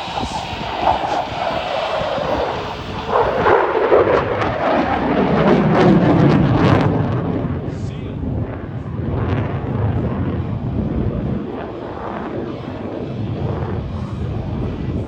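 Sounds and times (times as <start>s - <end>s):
jet engines roaring in flight: 0.0s - 15.0s.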